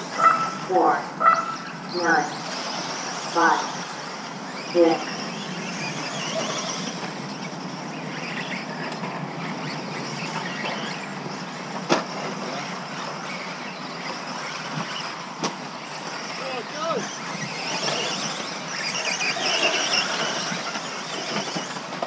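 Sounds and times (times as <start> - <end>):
rc car motor whine: 0.0 - 22.0.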